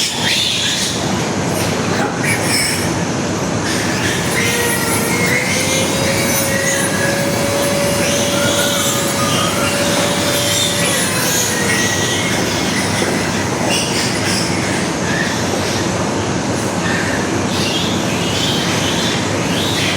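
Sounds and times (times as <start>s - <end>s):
piglets squealing: 0.0s - 3.0s, 3.6s - 15.9s, 16.5s - 19.9s.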